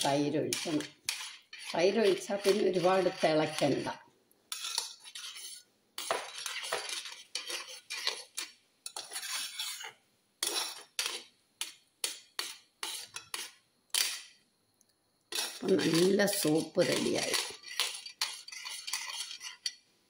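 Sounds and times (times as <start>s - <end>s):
spoon scraping a metal pot: 0.0s - 14.4s, 15.3s - 19.8s.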